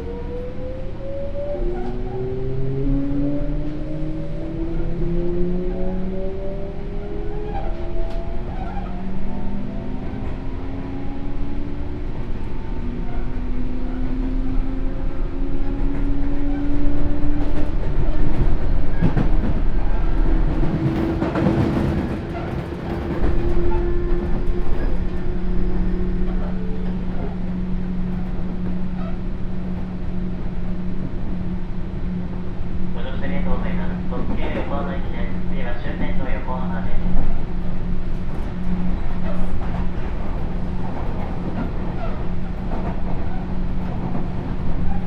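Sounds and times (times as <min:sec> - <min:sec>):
wheel and rail rumble: 0:00.0 - 0:45.0.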